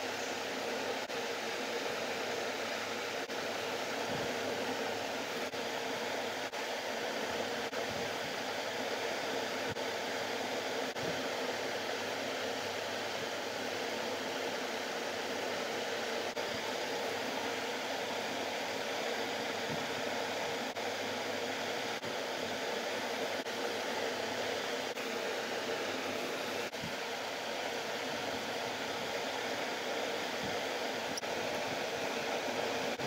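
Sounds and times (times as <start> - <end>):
steady fan-like background noise: 0.0 - 33.0.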